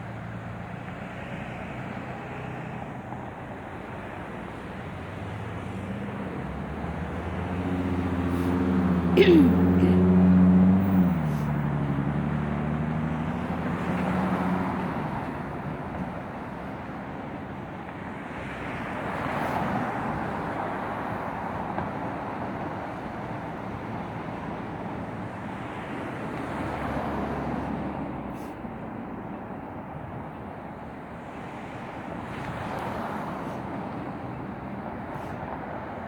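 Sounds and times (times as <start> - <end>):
steady traffic roar: 0.0 - 36.0
vehicles passing: 0.0 - 36.0.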